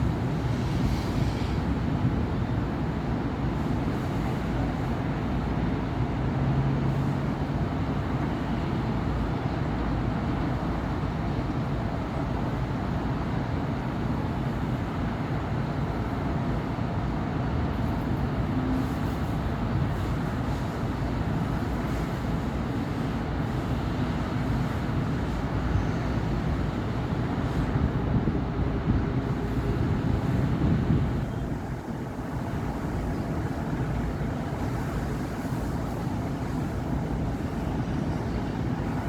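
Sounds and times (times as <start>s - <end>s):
city road traffic: 0.0s - 39.0s
low engine hum: 0.0s - 39.0s.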